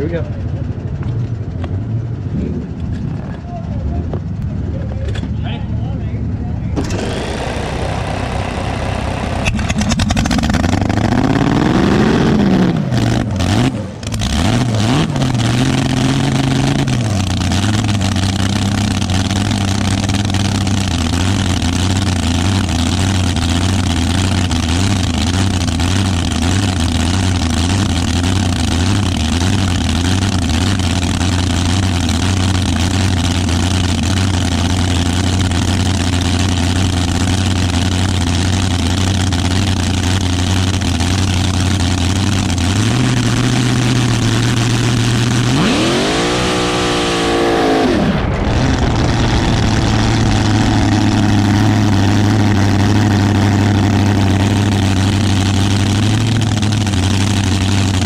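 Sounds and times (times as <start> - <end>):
dragster engine idling and revving: 0.0 - 58.0.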